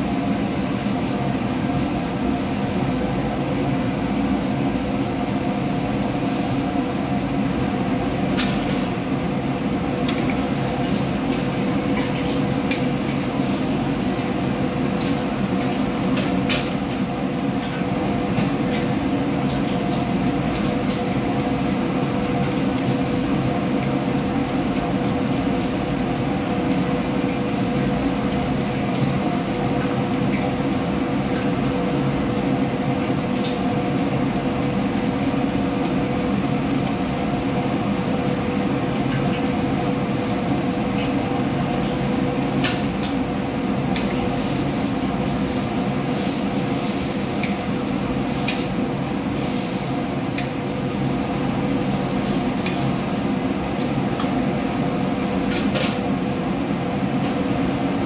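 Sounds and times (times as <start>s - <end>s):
exhaust hood fan humming: 0.0s - 58.0s
gas wok burners roaring: 0.0s - 58.0s.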